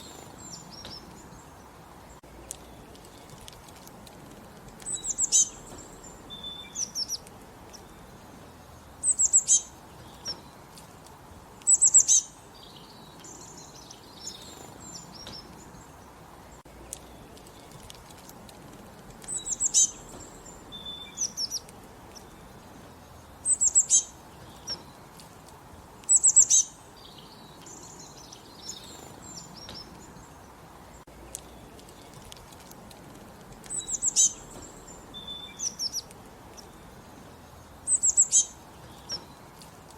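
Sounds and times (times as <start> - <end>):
songbird singing loud phrase: 0.0 - 3.5, 4.7 - 10.8, 11.4 - 17.9, 19.0 - 32.5, 33.5 - 39.9
soft bird chirping: 0.0 - 39.9.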